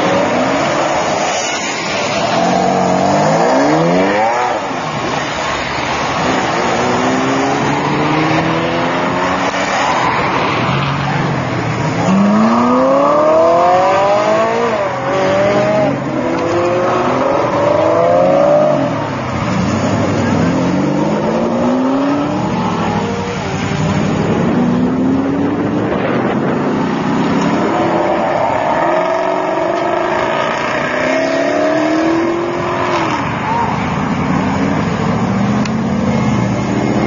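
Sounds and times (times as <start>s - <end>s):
car engines revving and accelerating: 0.0s - 37.0s.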